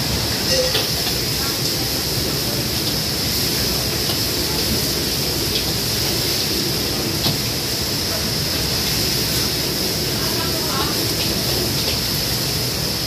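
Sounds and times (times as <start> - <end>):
gas burners roaring: 0.0 - 13.0.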